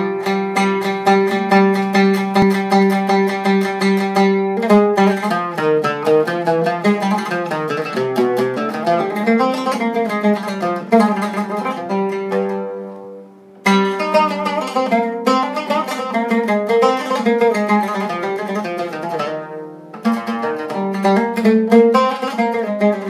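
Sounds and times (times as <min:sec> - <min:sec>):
oud being plucked: 0:00.0 - 0:23.0.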